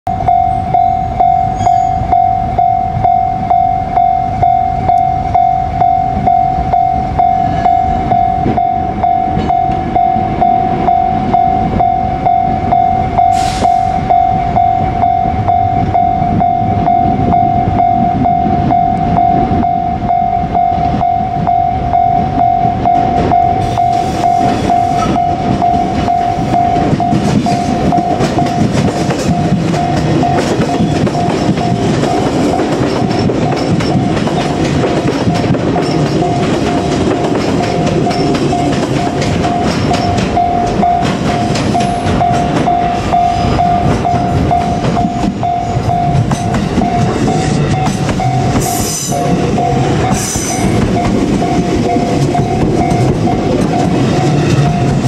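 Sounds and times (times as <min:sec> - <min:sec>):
level crossing bell ringing: 0:00.1 - 0:34.2, 0:37.6 - 0:55.0
electric train passing: 0:00.1 - 0:55.0.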